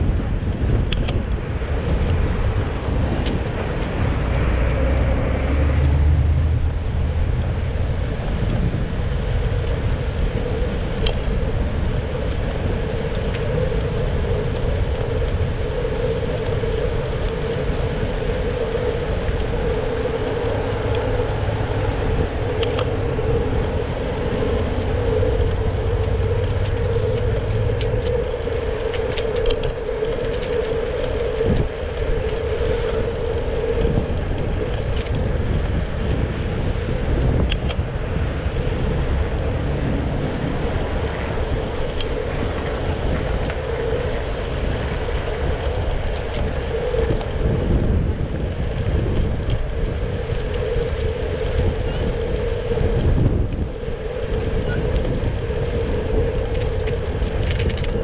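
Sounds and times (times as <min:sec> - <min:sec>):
low rumble: 0:00.0 - 0:58.0
road traffic noise: 0:00.0 - 0:58.0.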